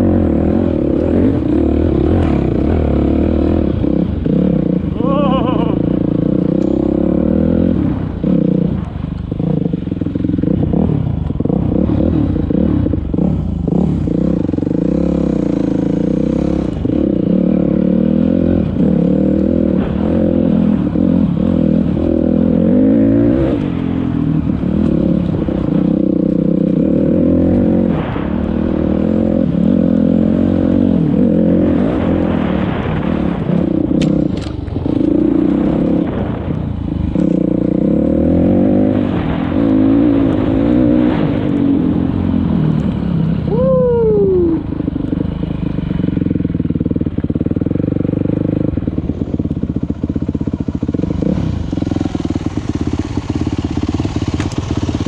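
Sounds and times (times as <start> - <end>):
dirt bike engine revving: 0.0 - 44.7.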